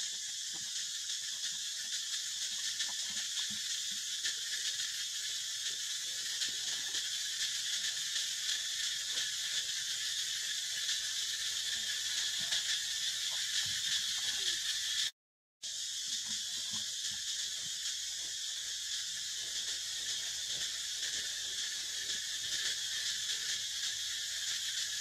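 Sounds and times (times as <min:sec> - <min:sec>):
forest insects buzzing: 0:00.0 - 0:25.0.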